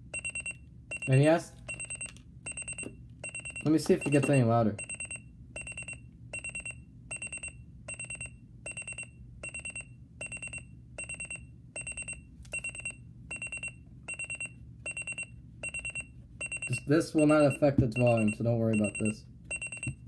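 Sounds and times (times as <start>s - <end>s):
alarm clock beeping: 0.1s - 20.0s.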